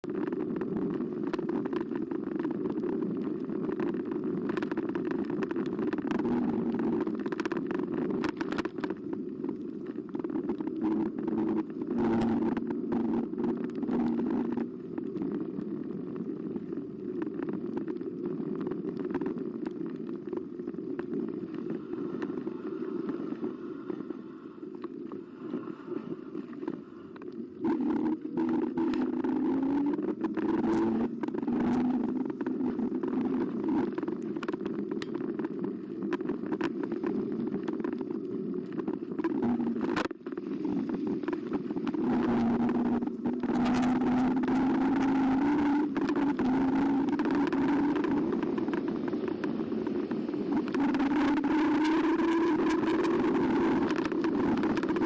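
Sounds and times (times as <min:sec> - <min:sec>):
faint hum: 0:00.0 - 0:55.0
tyre and wind rumble: 0:00.0 - 0:55.0.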